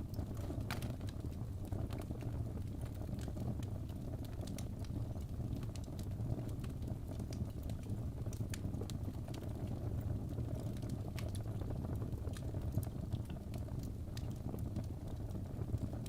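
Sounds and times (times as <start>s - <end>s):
fire roaring in fireplace: 0.0s - 16.0s
logs crackling and popping: 0.0s - 16.0s.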